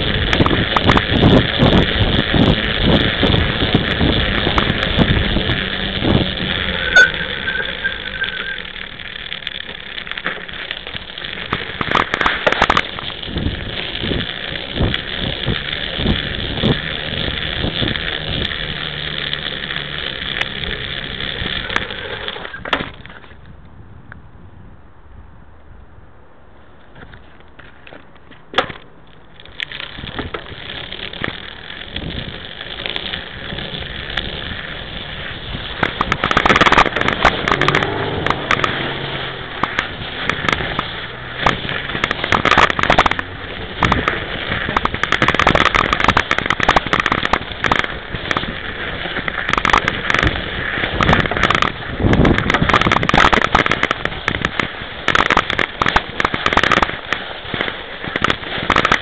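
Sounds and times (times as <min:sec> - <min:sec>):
camera rattle: 0:00.0 - 0:23.5, 0:26.9 - 0:59.0
bike tyre crunching snow: 0:00.0 - 0:24.0, 0:26.4 - 0:59.0.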